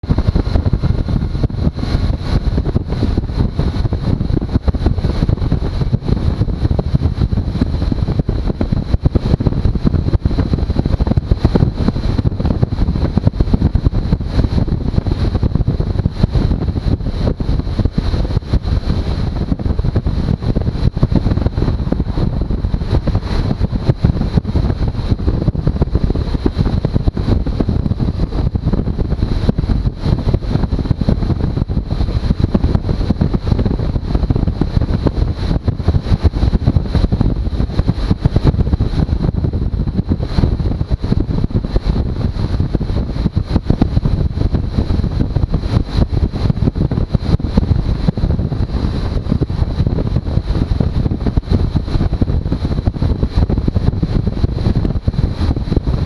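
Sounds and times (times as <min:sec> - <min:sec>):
wind noise on microphone: 0:00.0 - 0:56.0.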